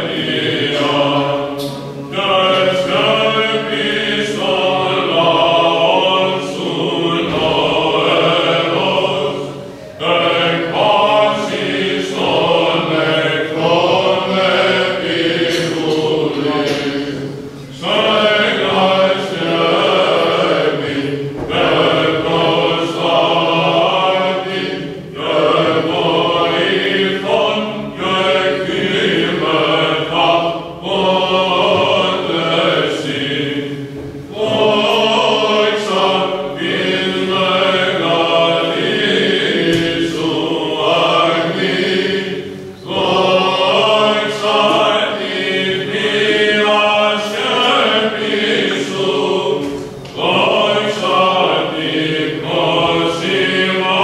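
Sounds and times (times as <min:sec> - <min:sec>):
several voices chanting: 0:00.0 - 0:54.0.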